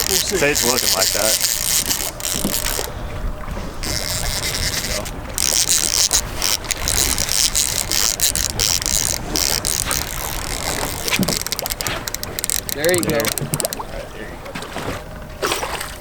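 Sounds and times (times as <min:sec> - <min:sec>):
fishing reel gears ratcheting: 0:00.0 - 0:03.0, 0:03.6 - 0:13.9.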